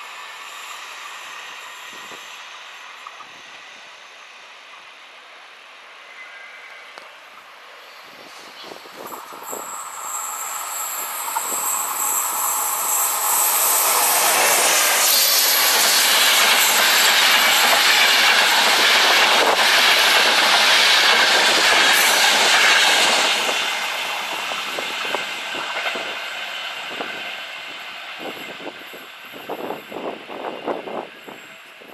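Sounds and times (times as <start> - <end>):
wheels rushing on rail: 0.0 - 31.9.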